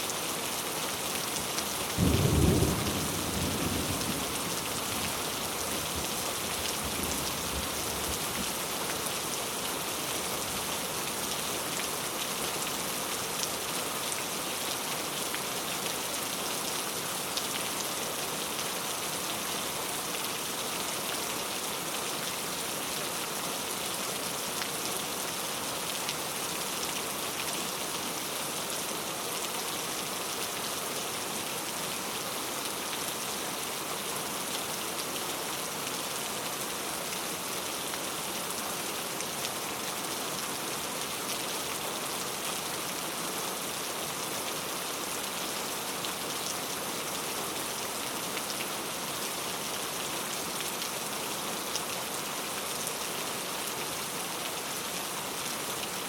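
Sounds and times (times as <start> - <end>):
heavy rain on leaves: 0.0 - 56.0.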